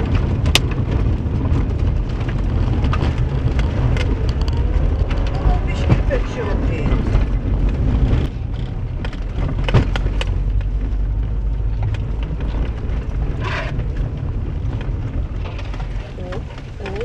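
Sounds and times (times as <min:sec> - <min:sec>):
car engine at low revs: 0:00.0 - 0:17.0
tyre and road rumble: 0:00.0 - 0:17.0.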